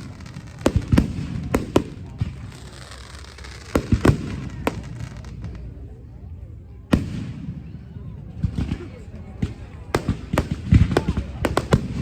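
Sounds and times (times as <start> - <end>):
fireworks booming overhead: 0.0 - 12.0.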